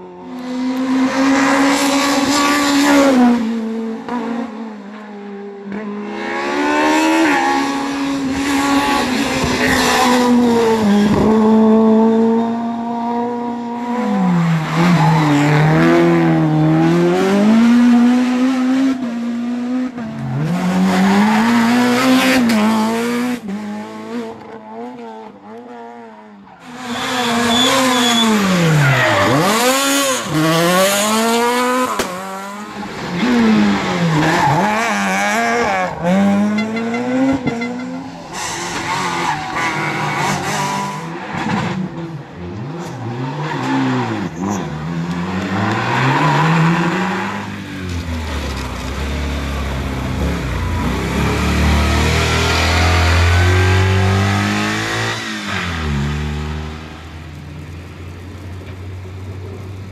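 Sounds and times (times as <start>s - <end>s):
rally car engines at full throttle: 0.0s - 59.9s.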